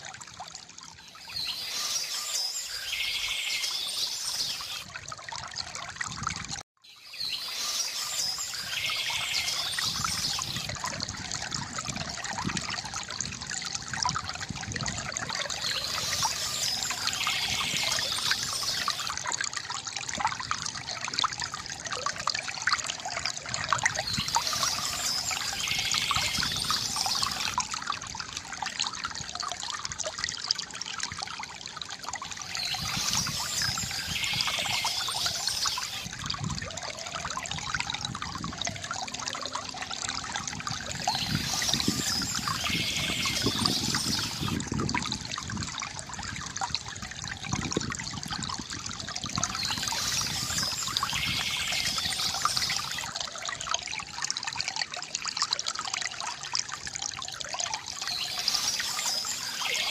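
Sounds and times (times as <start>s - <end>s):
stream trickling and splashing: 0.0s - 59.9s.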